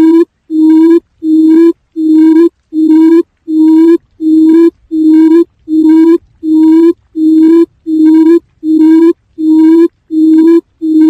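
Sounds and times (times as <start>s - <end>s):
low hooting quail call: 0.0s - 11.0s.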